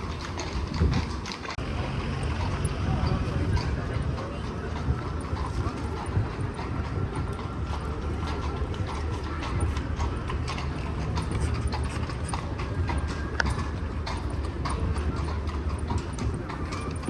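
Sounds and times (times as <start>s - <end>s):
carriage wheels rumbling: 0.0s - 17.0s
hooves clip-clopping on cobbles: 0.0s - 17.0s.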